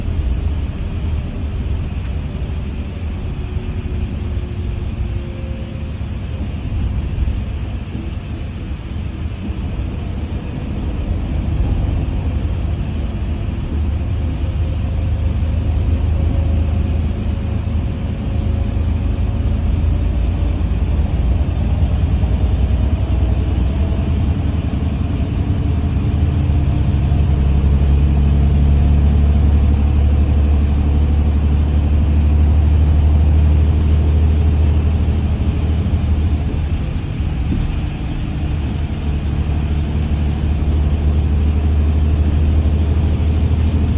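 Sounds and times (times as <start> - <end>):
faint engine whine: 0.0 - 43.9
vehicle rumble from inside cabin: 0.0 - 43.9.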